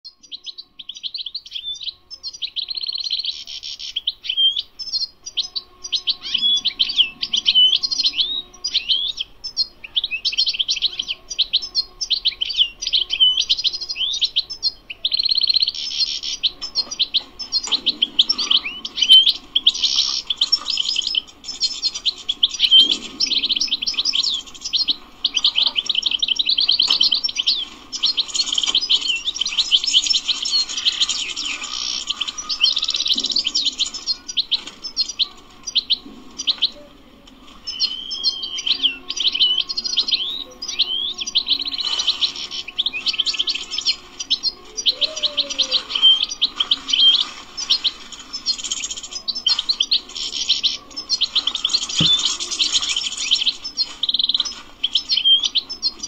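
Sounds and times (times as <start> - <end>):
finch twittering song: 0.1 - 36.8, 37.4 - 56.0.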